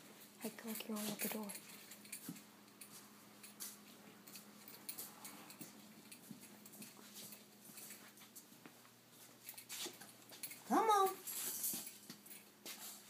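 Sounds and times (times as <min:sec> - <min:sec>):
dog claws clicking on floor: 0:00.4 - 0:13.0.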